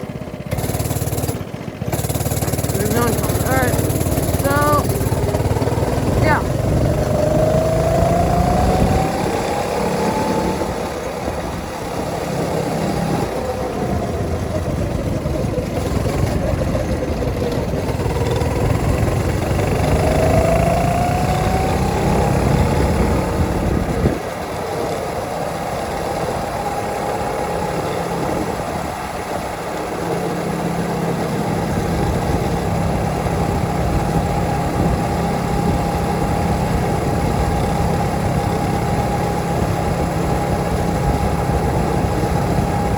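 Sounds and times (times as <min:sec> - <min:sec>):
go-kart engine running: 0:00.0 - 0:42.9.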